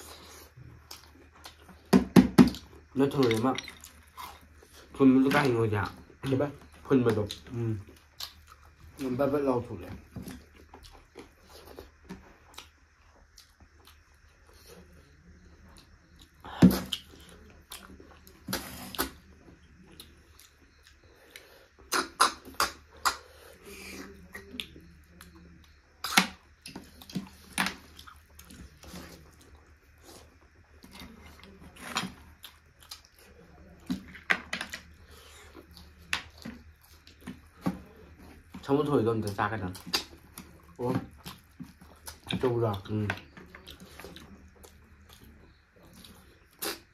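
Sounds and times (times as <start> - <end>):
chewing and sucking: 0.0 - 1.9, 6.6 - 9.1, 10.2 - 34.2, 34.8 - 46.9.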